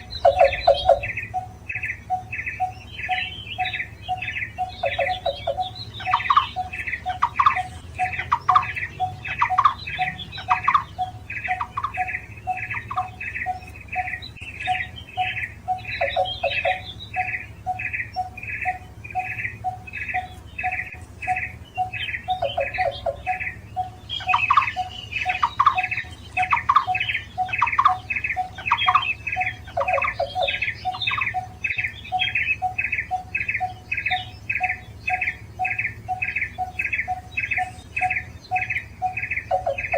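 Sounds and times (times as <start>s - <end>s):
bird repeating rapid notes: 0.0s - 39.9s.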